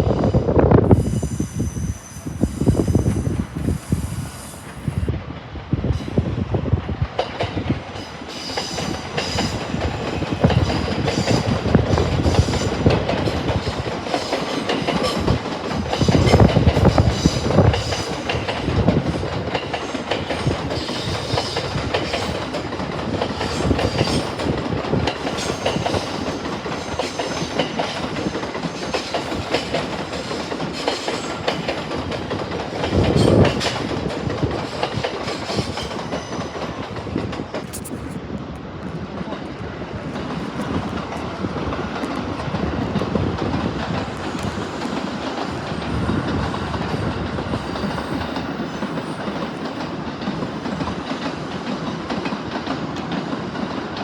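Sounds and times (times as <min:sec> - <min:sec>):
train rumble: 0:00.0 - 0:54.0
train wheels clattering over rail joints: 0:06.9 - 0:37.7, 0:40.1 - 0:54.0.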